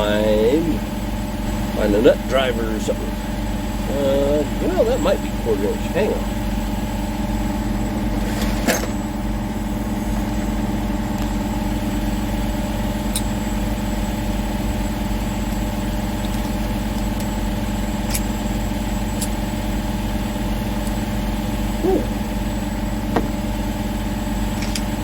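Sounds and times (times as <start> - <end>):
machine drone: 0.0 - 25.0.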